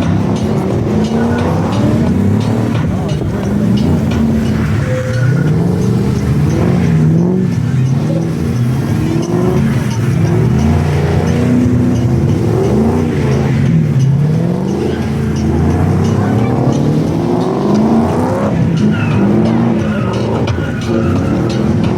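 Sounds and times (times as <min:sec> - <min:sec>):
car engines revving: 0:00.0 - 0:21.9.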